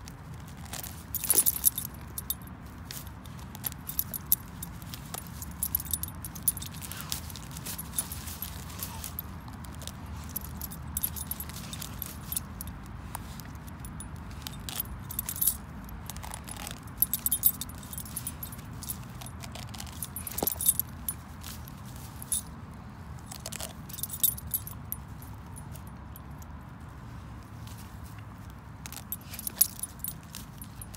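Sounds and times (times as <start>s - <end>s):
dog digging in dry grass: 0.3s - 22.4s, 27.5s - 30.9s
dog tag and clip jingling: 0.5s - 22.6s, 23.2s - 26.5s, 28.8s - 30.9s.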